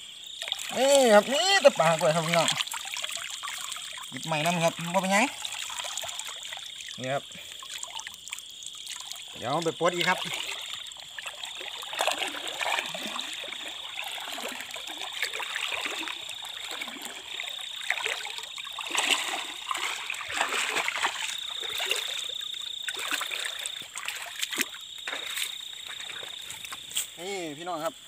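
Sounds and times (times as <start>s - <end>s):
water splashing around wading legs: 0.4s - 27.2s.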